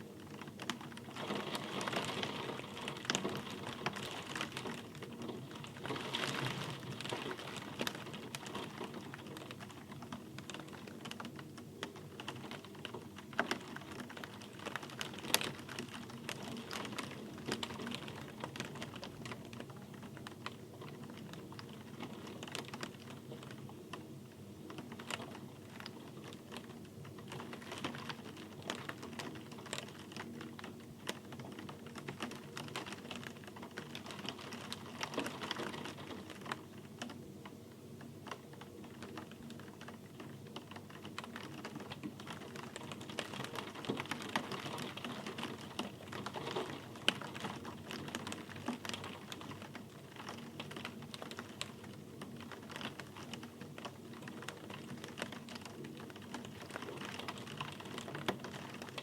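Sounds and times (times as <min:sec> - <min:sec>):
rain tapping on hard surface: 0:00.1 - 0:59.0.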